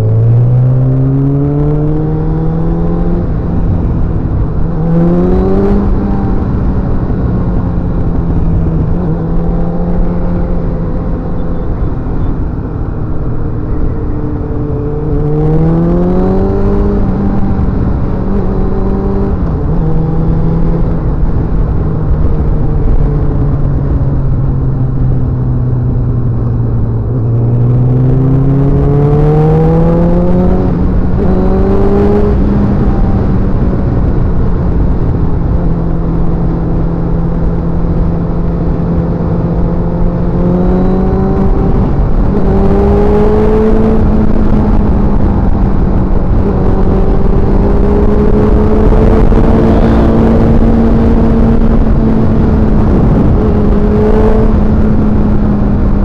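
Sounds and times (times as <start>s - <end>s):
motorcycle engine accelerating: 0.0s - 56.0s
rushing wind noise: 0.0s - 56.0s.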